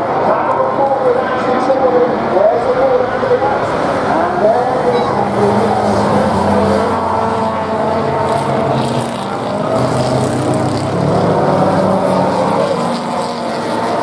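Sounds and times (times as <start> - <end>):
racing car engines accelerating: 0.0 - 14.0.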